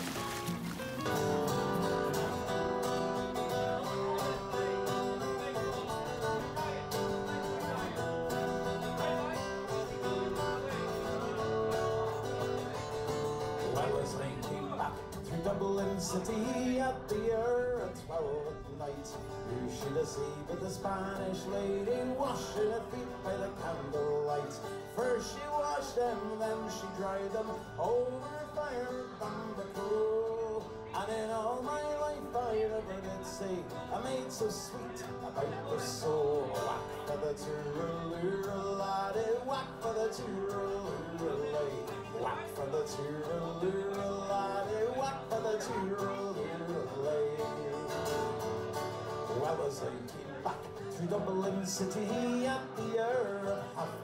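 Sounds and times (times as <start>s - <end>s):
plucked acoustic guitar melody: 0.0s - 54.0s.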